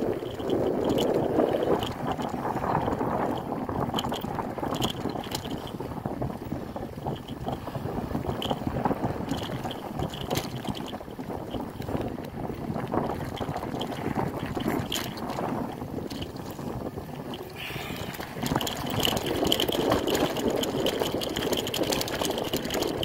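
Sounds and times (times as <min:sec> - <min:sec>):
bicycle tyres on gravel: 0:00.0 - 0:23.0
bike rattling and clicking: 0:00.0 - 0:23.0
wind buffeting microphone: 0:00.0 - 0:23.0.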